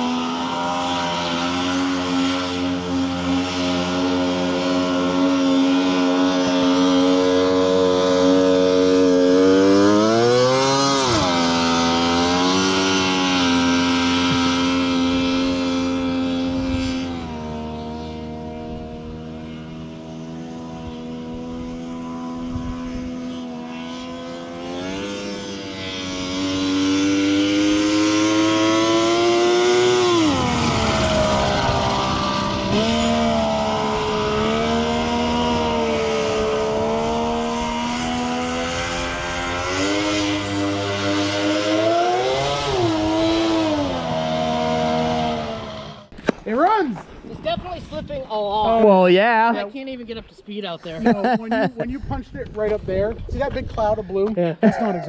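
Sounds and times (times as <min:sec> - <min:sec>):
two-stroke engine revving: 0:00.0 - 0:46.7.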